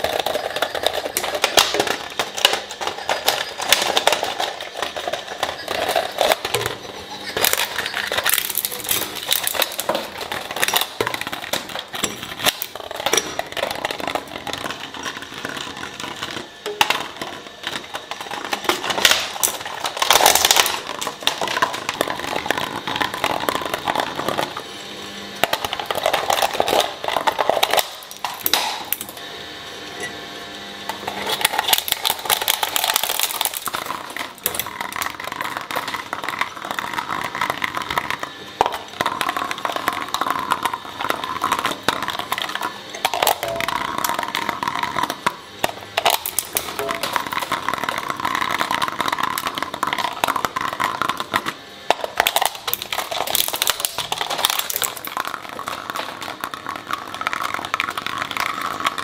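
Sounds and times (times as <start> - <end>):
shredder motor hum: 0.0 - 59.0
shredder tearing plastic: 0.0 - 59.0.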